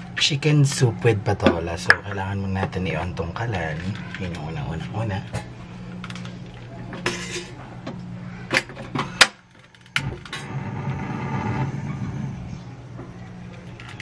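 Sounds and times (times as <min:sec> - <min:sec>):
gas burner rushing: 0:00.0 - 0:14.0
low steady hum: 0:00.0 - 0:14.0.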